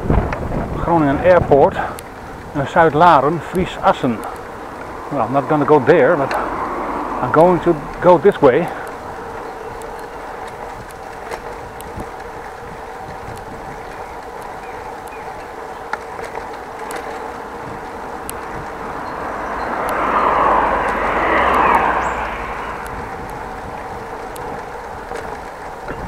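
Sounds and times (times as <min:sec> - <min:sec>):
bicycle riding on road: 0:00.0 - 0:26.0
motor vehicle passing: 0:00.4 - 0:26.0
small rattling clicks: 0:01.8 - 0:26.0.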